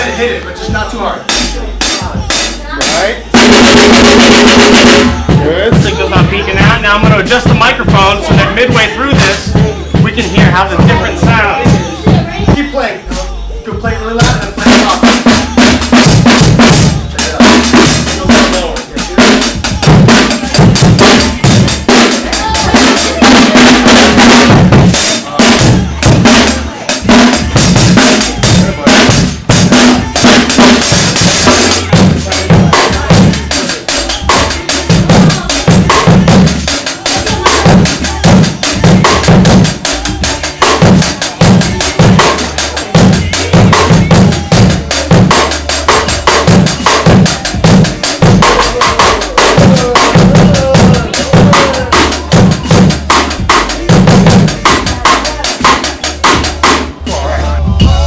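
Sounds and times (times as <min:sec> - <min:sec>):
drum kit playing fast: 0:00.0 - 0:58.0.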